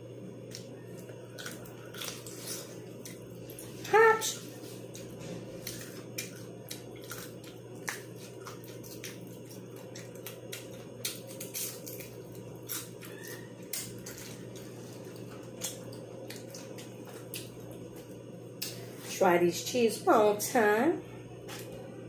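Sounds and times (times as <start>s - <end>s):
crunchy chewing: 0.4s - 19.0s.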